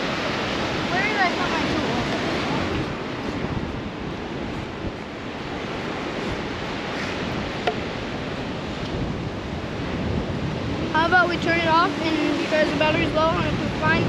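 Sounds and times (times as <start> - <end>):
surf breaking on a beach: 0.0 - 14.0
wind buffeting microphone: 0.0 - 14.0.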